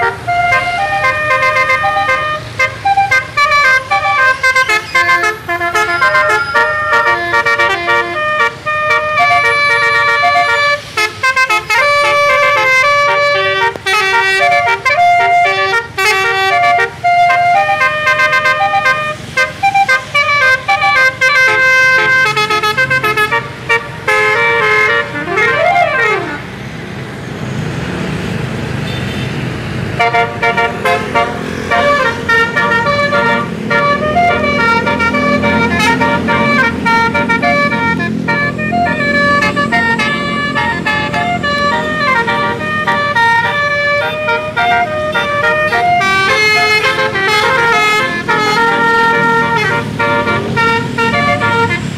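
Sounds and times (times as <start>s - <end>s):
bus air horn melody: 0.0s - 26.5s, 30.0s - 51.9s
bus engine and road rumble: 0.0s - 51.9s.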